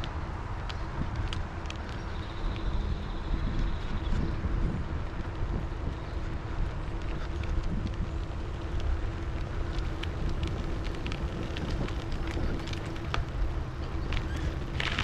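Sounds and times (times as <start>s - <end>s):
light ticks: 0.0s - 4.0s, 5.1s - 15.0s
wind rumbling on microphone: 0.0s - 15.0s.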